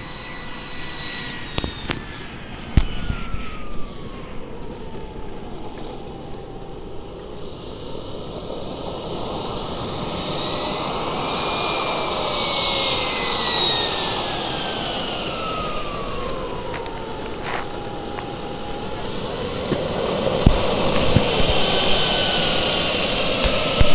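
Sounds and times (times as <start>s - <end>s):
turbine jet engine whining: 0.0s - 23.9s.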